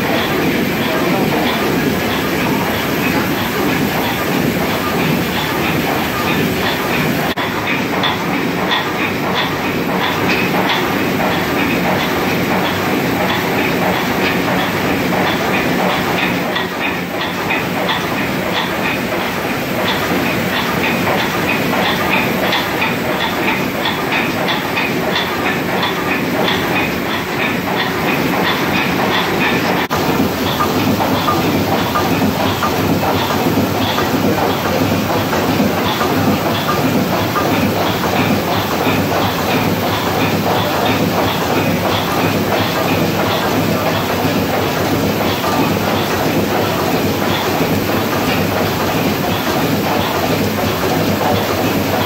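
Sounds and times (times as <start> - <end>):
steam engine running: 0.0 - 52.0.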